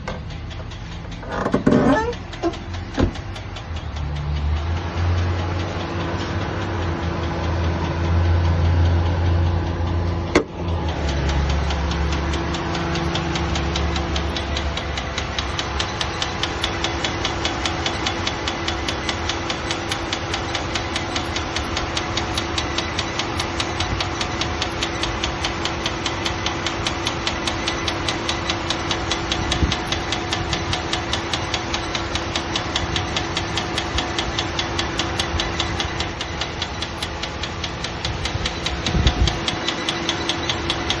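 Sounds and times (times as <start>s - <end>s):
car engine idling: 0.0s - 41.0s
fast ticking from engine: 0.0s - 41.0s.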